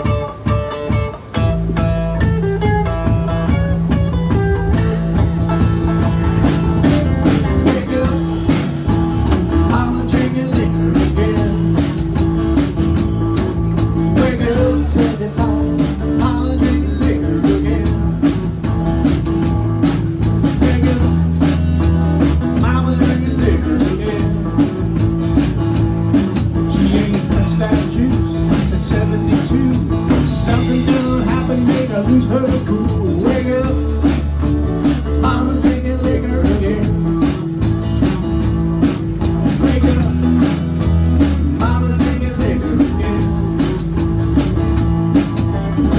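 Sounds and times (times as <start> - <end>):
bass guitar: 0.0 - 45.9
electric guitar: 0.0 - 45.9
steady drum beat: 0.0 - 45.9.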